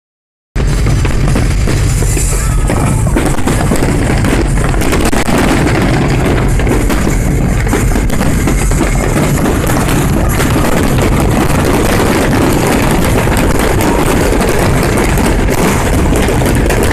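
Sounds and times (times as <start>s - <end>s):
fireworks bursting and crackling: 0.6s - 16.9s.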